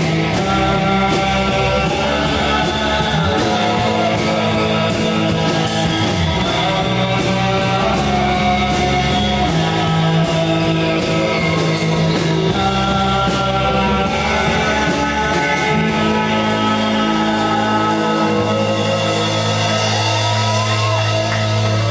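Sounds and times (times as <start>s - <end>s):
rock band playing live: 0.0s - 21.9s.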